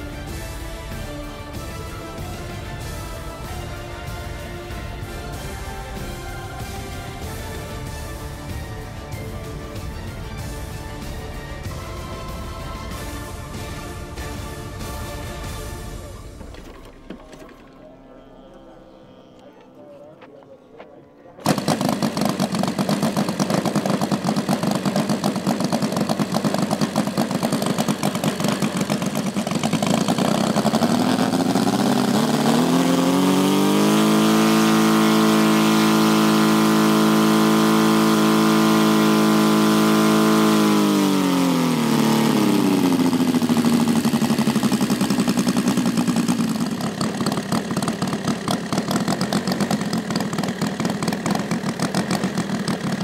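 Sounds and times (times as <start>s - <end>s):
model airplane engine running: 0.0s - 18.6s, 21.4s - 53.0s.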